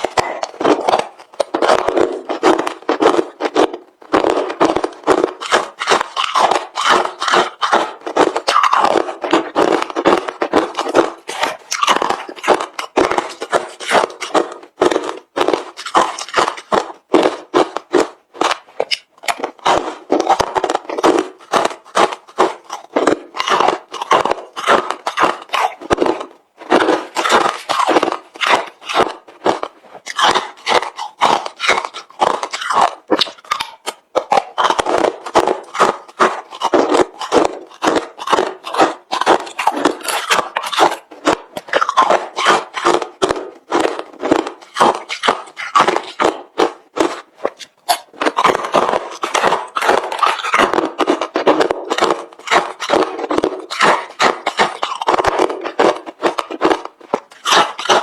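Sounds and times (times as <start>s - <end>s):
crunching ice being chewed: 0.0s - 58.0s.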